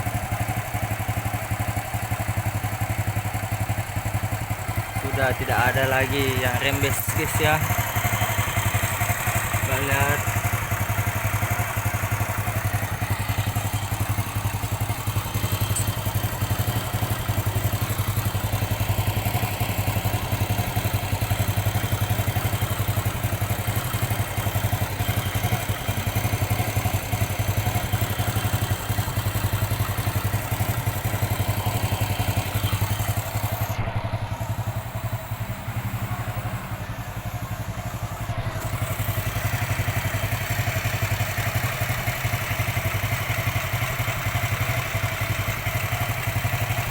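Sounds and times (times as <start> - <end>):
motorcycle engine idling: 0.0 - 46.9.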